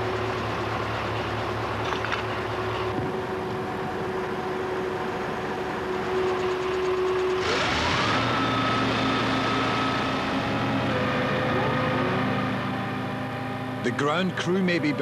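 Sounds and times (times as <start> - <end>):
fire engine engine hum: 0.0 - 15.0
hydraulic whine: 0.0 - 15.0.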